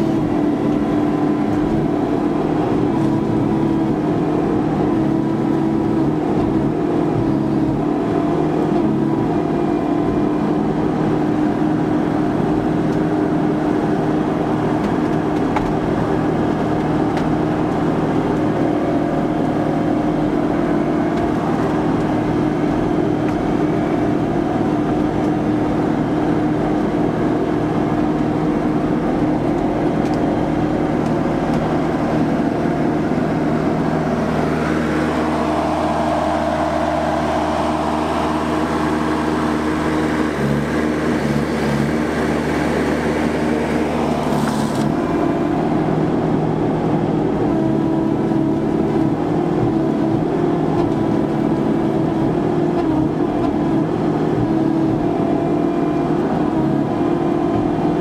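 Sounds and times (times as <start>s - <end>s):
harvester engine and hydraulics: 0.0s - 58.0s.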